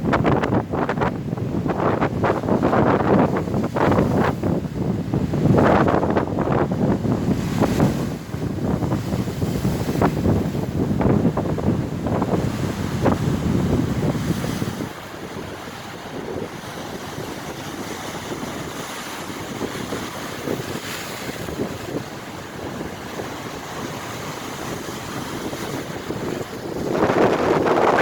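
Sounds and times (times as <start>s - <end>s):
gusty wind buffeting microphone: 0.0s - 28.0s
sea waves washing: 0.0s - 28.0s.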